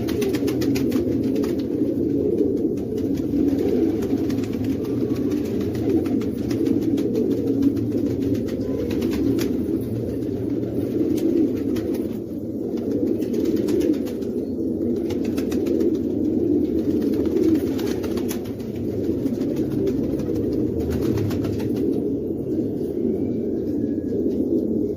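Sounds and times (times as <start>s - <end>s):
pigeon cooing: 0.0s - 24.9s.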